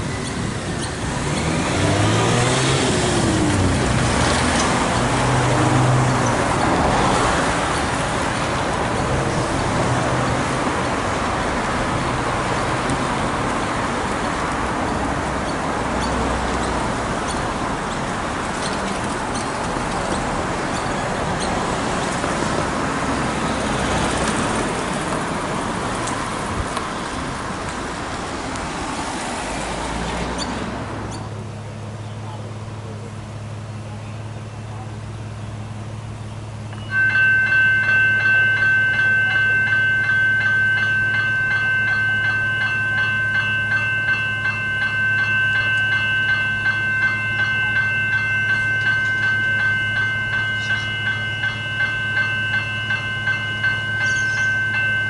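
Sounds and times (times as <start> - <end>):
cars driving past: 0.0 - 55.0.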